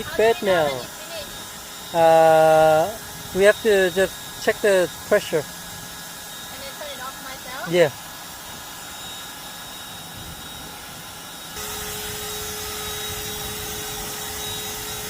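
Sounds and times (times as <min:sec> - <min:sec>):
electric air pump whirring: 0:00.0 - 0:15.0
steady hum: 0:00.0 - 0:15.0.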